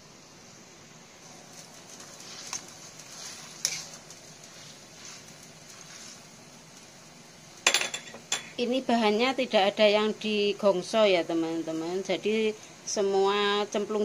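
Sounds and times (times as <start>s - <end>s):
cabbage boiling in a wok: 0.0s - 14.0s.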